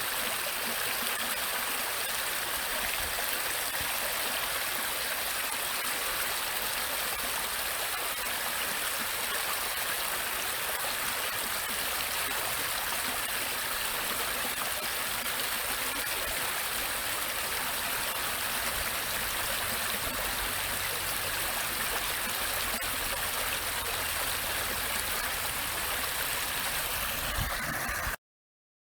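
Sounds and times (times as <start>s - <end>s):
stream flowing over stones: 0.0s - 28.2s.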